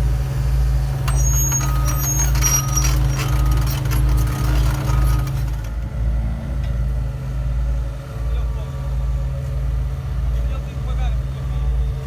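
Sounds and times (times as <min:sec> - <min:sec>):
diesel machinery droning: 0:00.0 - 0:12.0.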